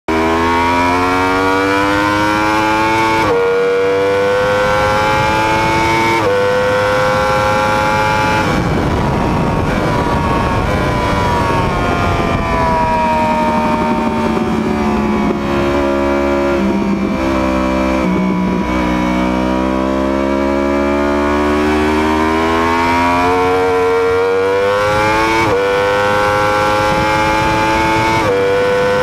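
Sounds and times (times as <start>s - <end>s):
motorcycle engine accelerating: 0.1s - 29.0s
wind rush: 4.2s - 29.0s.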